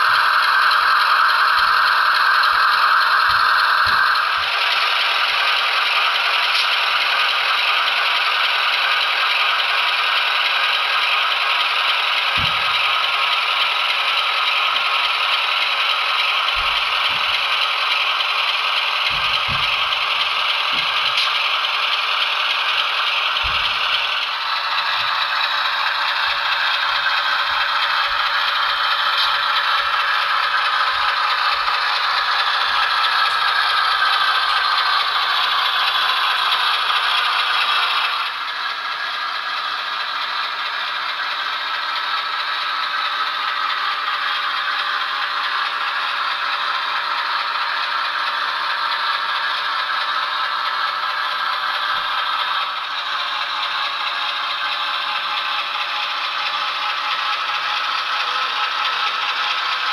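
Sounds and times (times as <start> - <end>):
model train wheels rattling: 0.0 - 59.9.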